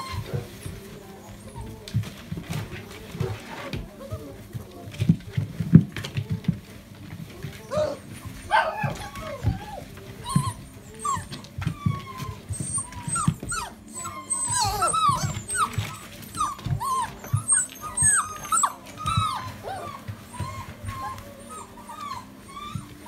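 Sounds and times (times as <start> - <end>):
puppies whining and yipping: 0.0 - 6.4, 7.0 - 23.0.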